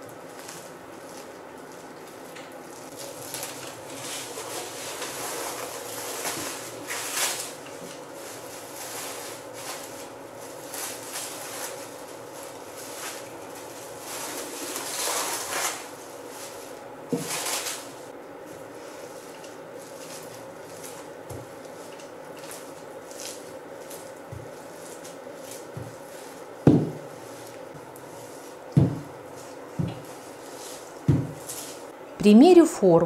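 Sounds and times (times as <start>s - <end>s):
plastic cling film crinkling: 0.0s - 31.9s.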